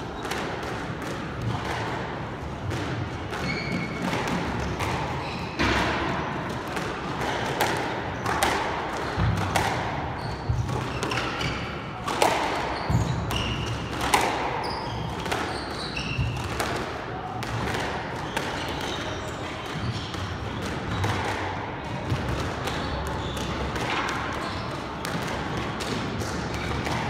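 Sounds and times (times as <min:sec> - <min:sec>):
squash ball struck by rackets: 0:00.1 - 0:27.0.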